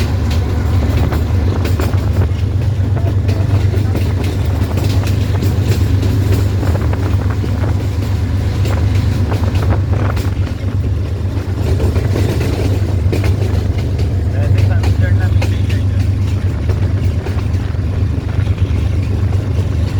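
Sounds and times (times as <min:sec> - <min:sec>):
locomotive engine drone: 0:00.0 - 0:19.9
train wheels clicking on track: 0:00.0 - 0:19.9.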